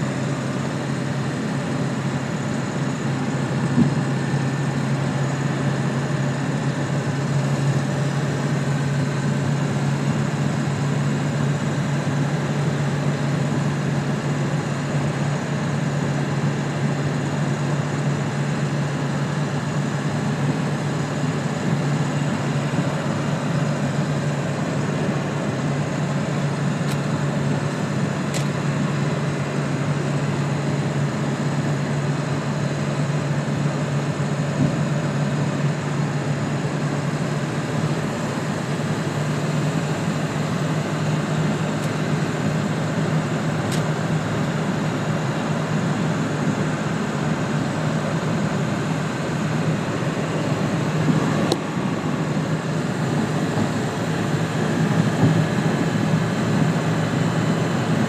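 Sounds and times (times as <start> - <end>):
drivetrain hum: 0.0 - 58.0
road and wind noise: 0.0 - 58.0.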